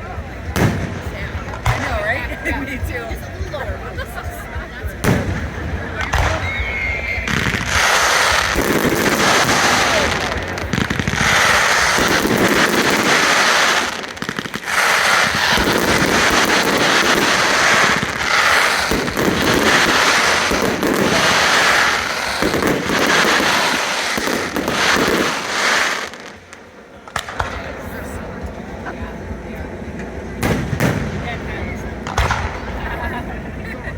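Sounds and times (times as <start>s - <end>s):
fireworks bangs and crackle: 0.0s - 33.9s.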